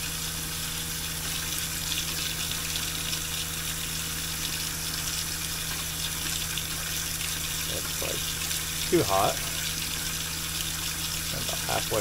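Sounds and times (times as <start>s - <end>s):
steady low hum: 0.0s - 12.0s
water running into metal sink: 0.0s - 12.0s.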